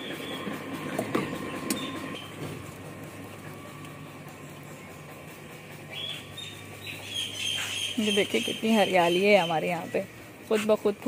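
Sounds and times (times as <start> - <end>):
birds chirping: 0.0 - 10.7
motor humming: 0.0 - 11.0.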